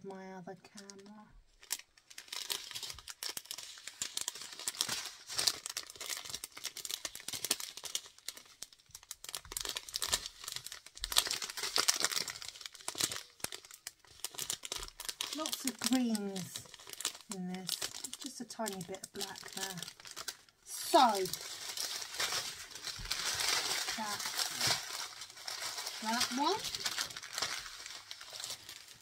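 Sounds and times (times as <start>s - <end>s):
plastic bags crinkling: 0.6s - 29.0s.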